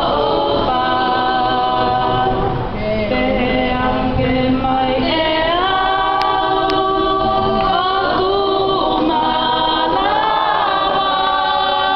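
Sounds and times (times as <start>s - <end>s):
congregation singing a hymn: 0.0s - 11.9s.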